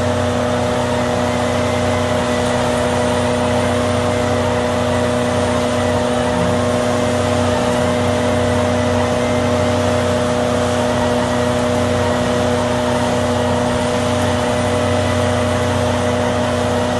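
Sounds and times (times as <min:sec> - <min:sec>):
shredder engine humming: 0:00.0 - 0:16.9.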